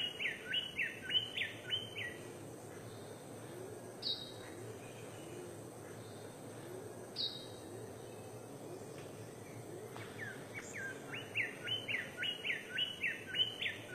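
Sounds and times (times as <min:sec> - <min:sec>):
background hiss: 0:00.0 - 0:13.9
bird calling: 0:00.0 - 0:13.9.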